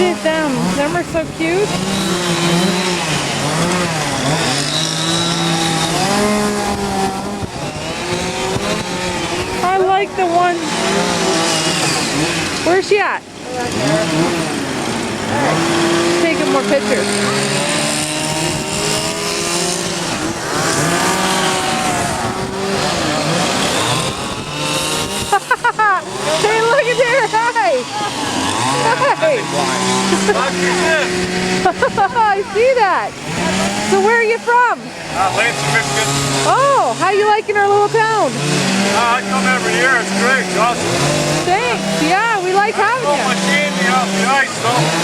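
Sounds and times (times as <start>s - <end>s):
chainsaws cutting wood: 0.0s - 45.0s.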